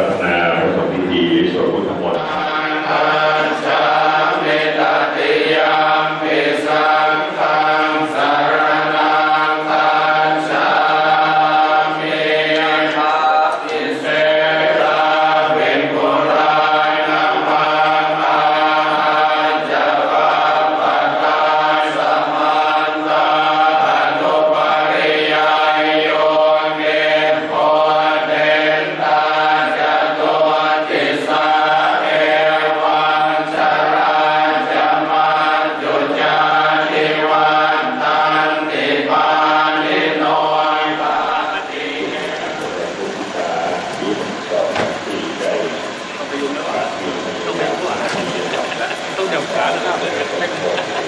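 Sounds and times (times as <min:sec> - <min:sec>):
monks chanting in unison: 0:00.0 - 0:51.0.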